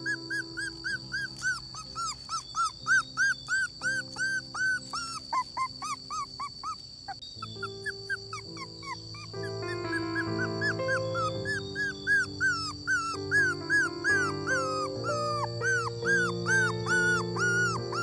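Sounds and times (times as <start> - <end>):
dog whining: 0.0 - 18.0.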